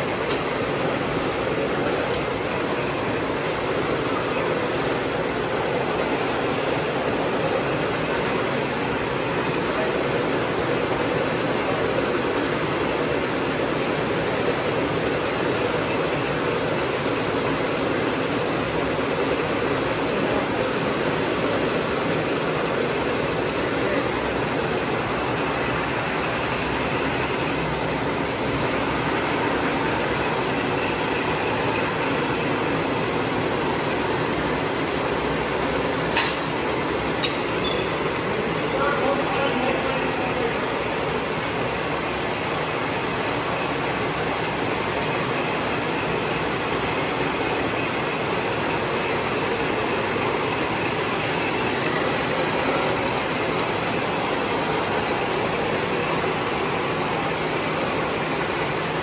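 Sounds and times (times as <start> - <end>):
machinery running: 0.0 - 59.0.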